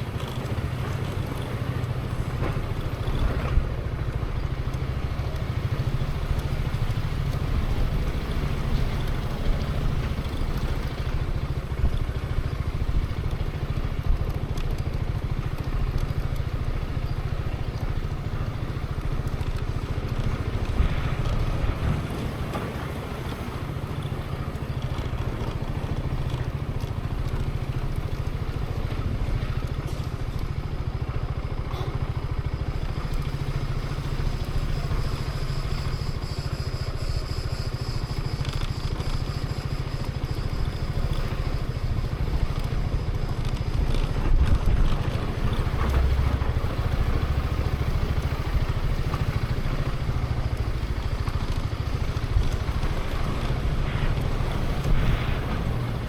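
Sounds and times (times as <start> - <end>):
scooter engine running: 0.0 - 56.0
small ticks and clatters: 0.0 - 56.0.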